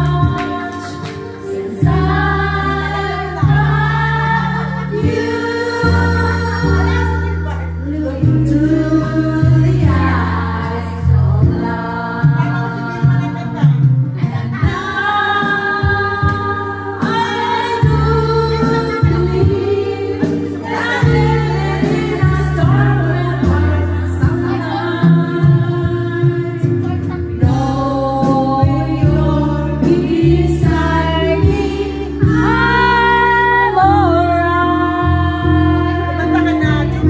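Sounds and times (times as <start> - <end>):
music backing track: 0.0 - 37.0
woman singing into microphone: 0.0 - 37.0.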